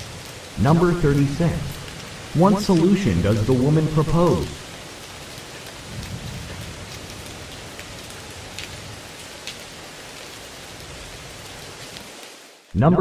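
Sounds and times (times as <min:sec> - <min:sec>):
rain-like hiss: 0:00.0 - 0:12.8.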